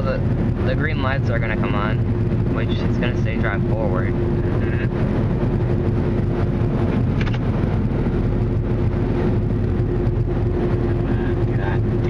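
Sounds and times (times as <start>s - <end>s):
steady hum and low rumble: 0.0s - 12.0s.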